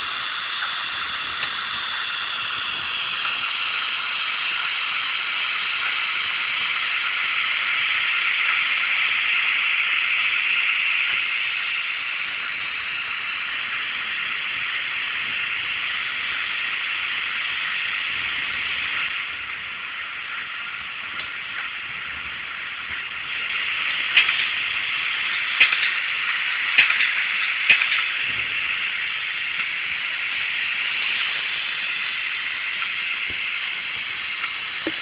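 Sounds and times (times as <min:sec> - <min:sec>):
model locomotive hissing hum: 0:00.0 - 0:35.0.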